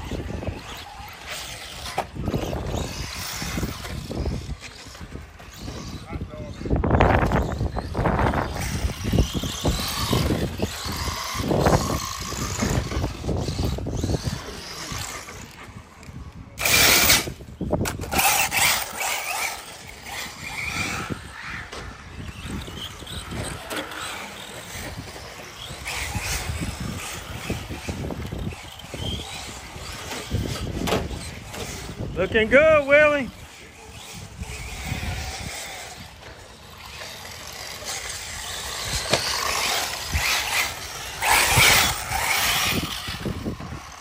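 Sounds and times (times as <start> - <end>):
electric rc car motors: 0.0 - 44.0.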